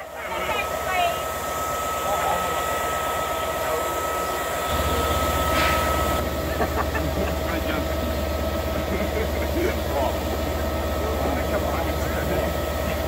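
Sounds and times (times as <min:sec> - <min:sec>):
diesel locomotive engine idling: 0:00.0 - 0:13.0
high continuous whine: 0:00.0 - 0:13.0.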